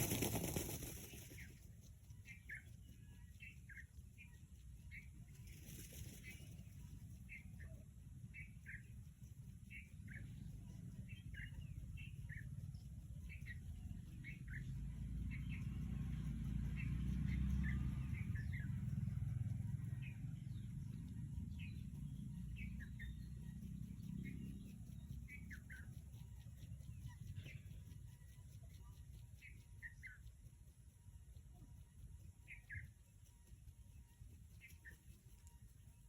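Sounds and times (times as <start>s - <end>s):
low rumble: 0.0s - 36.0s
small birds chirping: 0.0s - 36.0s.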